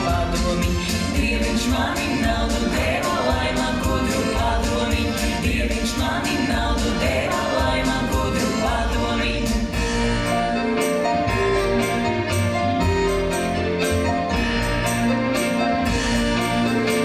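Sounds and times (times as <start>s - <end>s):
folk dance music with group singing: 0.0s - 17.0s.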